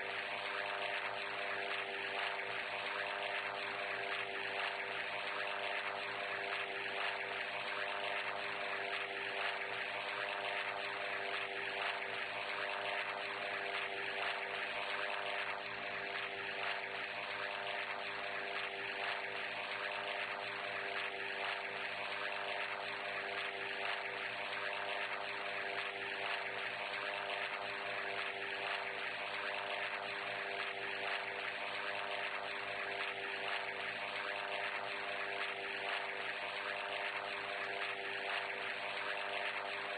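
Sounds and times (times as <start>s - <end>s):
steady machine drone: 0.0s - 39.9s.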